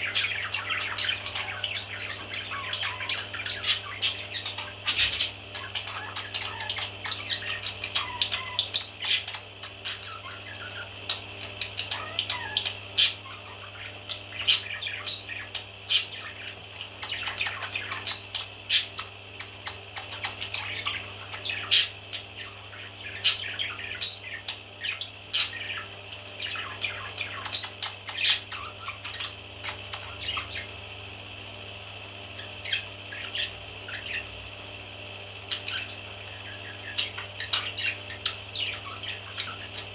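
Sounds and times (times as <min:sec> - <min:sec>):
baby parrots squawking: 0:00.0 - 0:30.7, 0:32.4 - 0:34.3, 0:35.5 - 0:39.9
steady low hum: 0:00.0 - 0:39.9.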